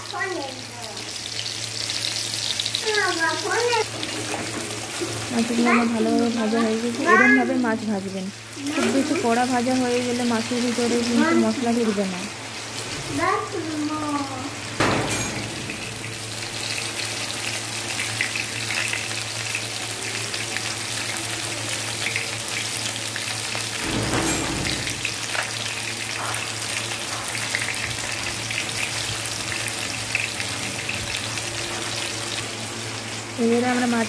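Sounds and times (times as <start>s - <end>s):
fish sizzling in hot oil: 0.0s - 34.0s.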